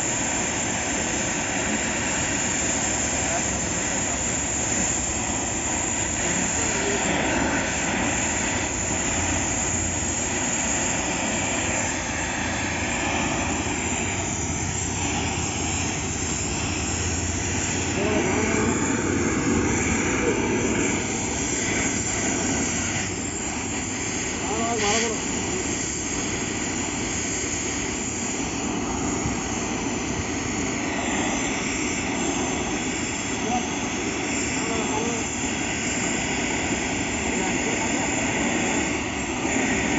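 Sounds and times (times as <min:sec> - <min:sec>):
welding torch flame hissing: 0:00.0 - 0:39.9.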